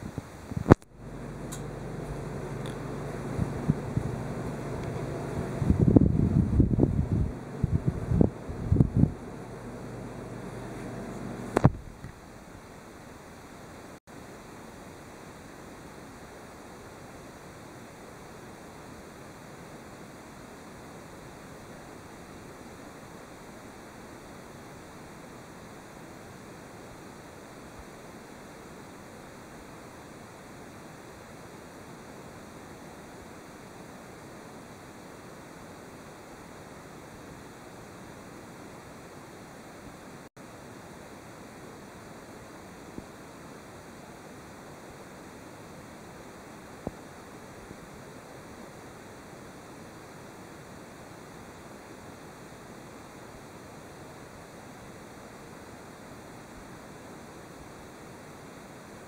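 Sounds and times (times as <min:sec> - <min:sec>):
room tone hiss: 0:00.0 - 0:59.0.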